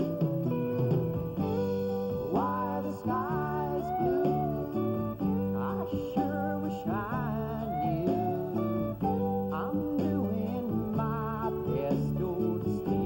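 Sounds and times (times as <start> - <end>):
guitar-led song: 0.0 - 13.0.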